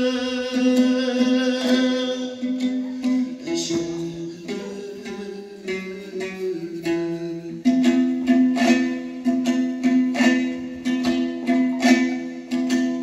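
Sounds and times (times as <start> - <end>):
lute strumming: 0.0 - 13.0.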